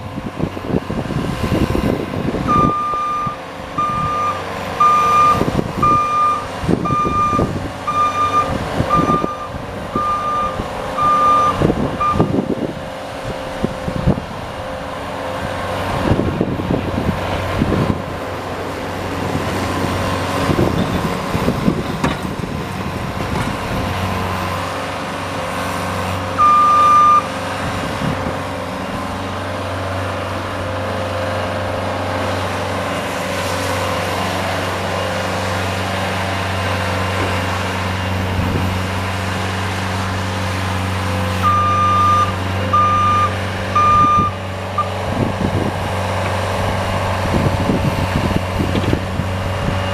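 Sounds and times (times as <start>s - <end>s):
snowplow engine running: 0.0s - 49.9s.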